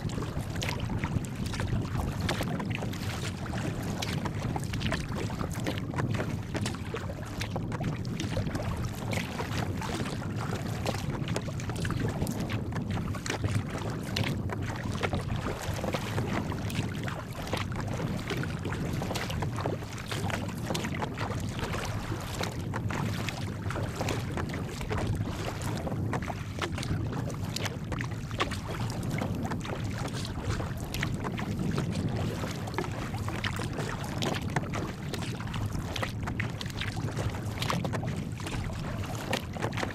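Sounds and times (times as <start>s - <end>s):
water splashing against kayak hull: 0.0s - 39.9s
wind rumble on microphone: 0.0s - 39.9s.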